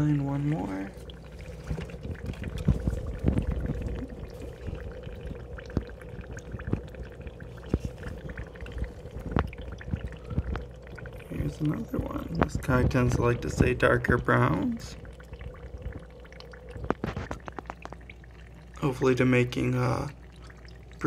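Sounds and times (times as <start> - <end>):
faint steady hum: 0.0 - 21.0
water pouring and trickling: 0.0 - 21.0.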